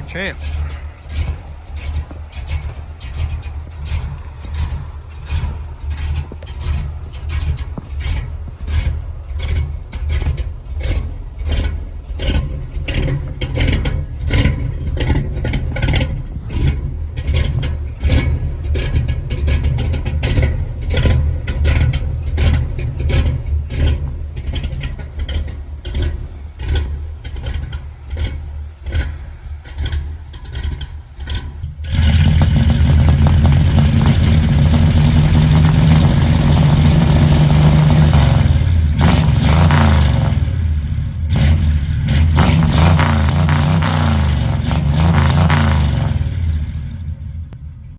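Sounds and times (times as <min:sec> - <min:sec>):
scraping and crackling: 0:00.0 - 0:47.0
truck engine running: 0:00.0 - 0:47.9.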